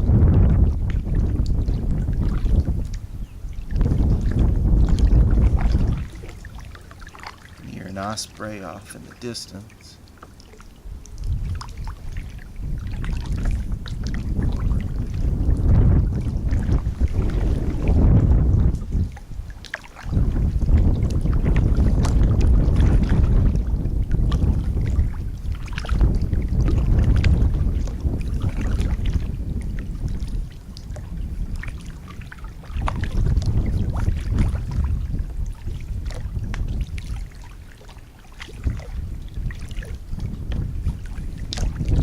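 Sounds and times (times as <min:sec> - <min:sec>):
wind buffeting microphone: 0:00.0 - 0:09.7, 0:10.6 - 0:42.0
paddle dipping and dripping: 0:00.0 - 0:42.0
small water splashes: 0:00.0 - 0:42.0.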